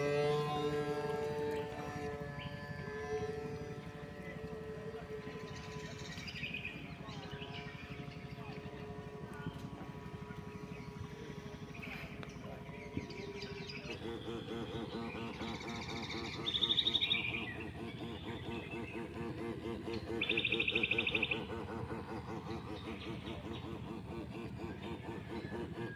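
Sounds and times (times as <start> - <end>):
pulsed bird trills: 0.0 - 25.9
fast-pulsing background sound: 0.7 - 25.9.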